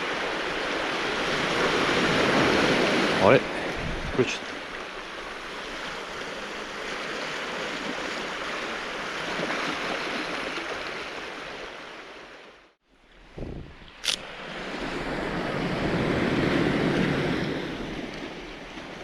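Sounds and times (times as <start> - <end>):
surf washing onto cobble beach: 0.0 - 11.6, 14.3 - 19.0.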